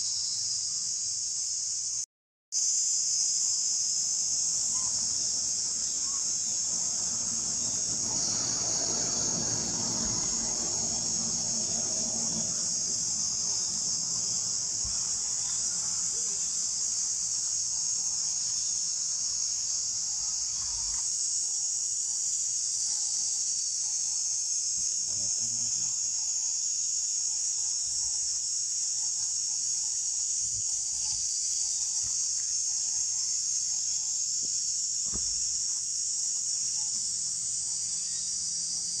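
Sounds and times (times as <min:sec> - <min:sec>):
high-pitched insect chorus buzzing: 0:00.0 - 0:39.0.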